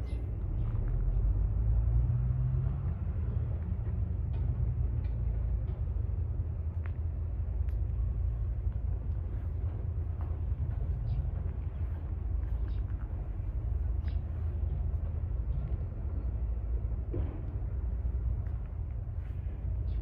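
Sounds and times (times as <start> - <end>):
harvester engine low rumble: 0.0 - 20.0.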